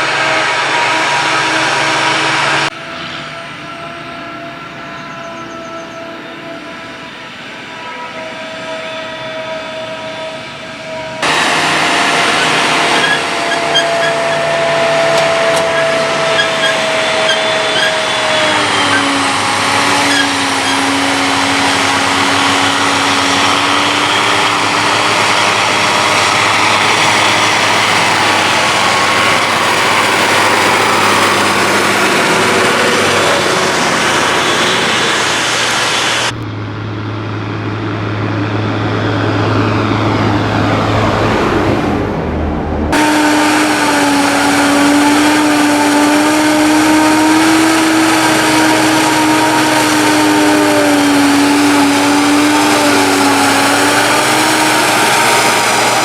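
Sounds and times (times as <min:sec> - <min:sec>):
harvesting machine engine drone: 0:00.0 - 0:56.0.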